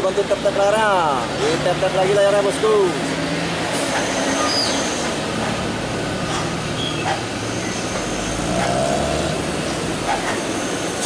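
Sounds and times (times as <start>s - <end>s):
road noise: 0.0s - 11.0s
truck engines pulling uphill: 0.0s - 11.0s
motorcycles passing: 0.1s - 11.0s.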